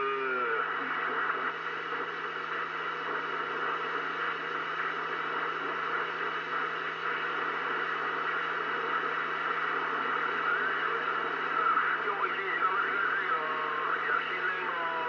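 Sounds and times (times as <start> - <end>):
radio static hiss: 0.0 - 15.0
steady low hum: 0.0 - 15.0.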